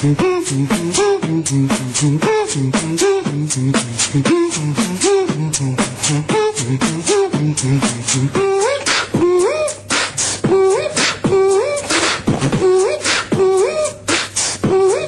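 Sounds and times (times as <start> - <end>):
beatboxing: 0.0 - 15.0.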